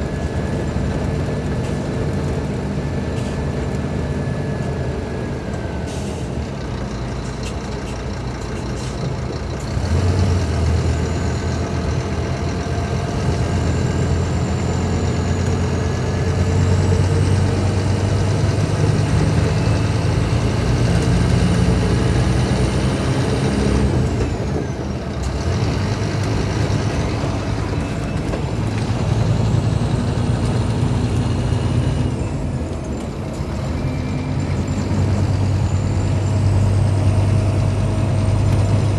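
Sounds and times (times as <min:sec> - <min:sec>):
bus engine running under load: 0:00.0 - 0:38.9.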